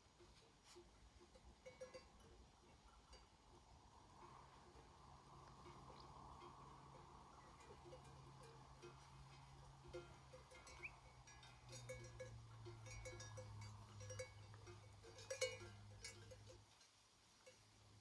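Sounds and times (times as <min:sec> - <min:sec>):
sheep bells clinking: 0:00.0 - 0:18.0.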